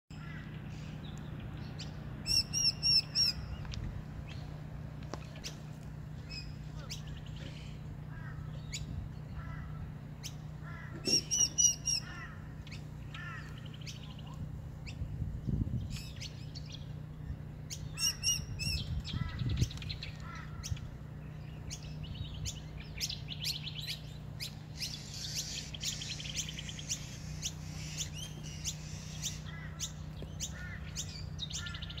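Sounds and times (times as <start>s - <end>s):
bird trills: 0.1s - 4.5s, 5.4s - 15.0s, 15.9s - 32.0s
birds calling and chirping: 0.1s - 32.0s.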